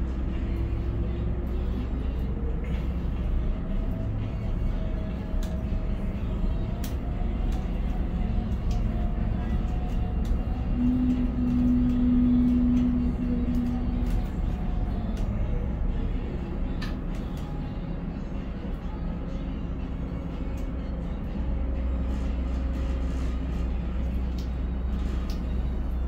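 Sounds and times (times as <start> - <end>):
crane machinery hum: 0.0 - 26.0.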